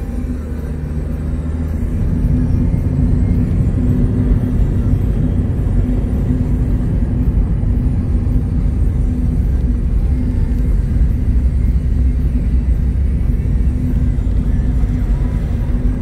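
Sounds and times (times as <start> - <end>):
car engine running: 0.0 - 16.0
road noise: 0.0 - 16.0.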